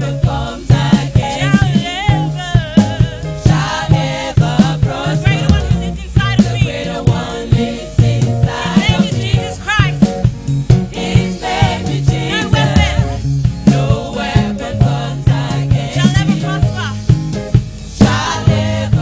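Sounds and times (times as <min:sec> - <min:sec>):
bass line: 0:00.0 - 0:19.0
gospel choir singing over beat: 0:00.0 - 0:19.0.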